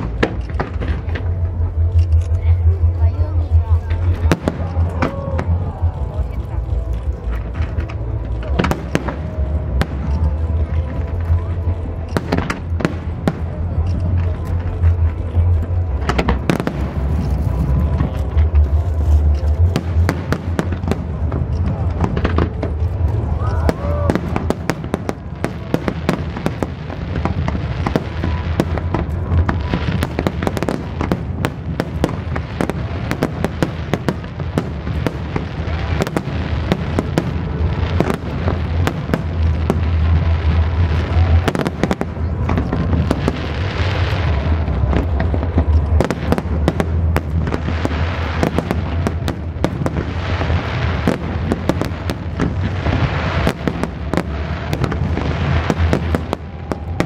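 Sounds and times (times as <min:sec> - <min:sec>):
fireworks crackling pops: 0:00.0 - 0:57.0
fireworks low booming: 0:00.0 - 0:57.0.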